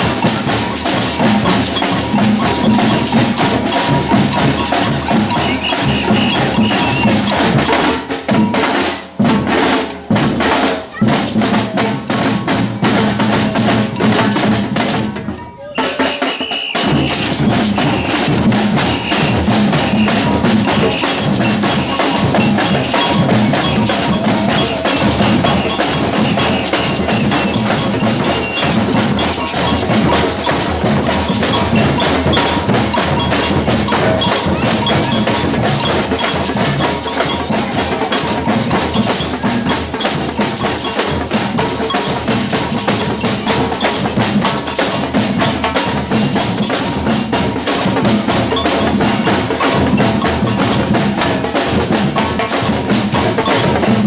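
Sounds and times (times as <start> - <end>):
samba drums and bells: 0.0 - 54.0.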